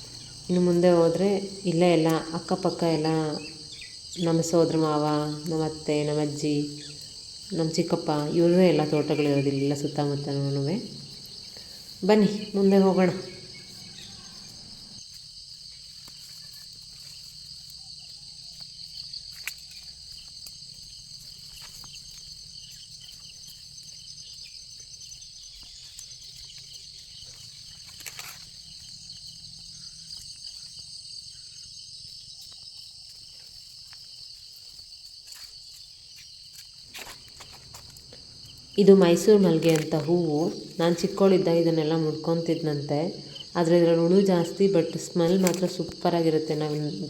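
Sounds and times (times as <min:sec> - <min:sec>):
insect chorus drone: 0:00.0 - 0:47.0.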